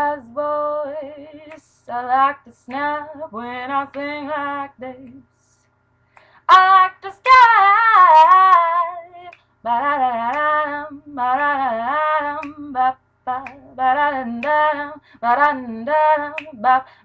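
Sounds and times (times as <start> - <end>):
woman singing a cappella: 0.0 - 5.7, 6.4 - 17.0.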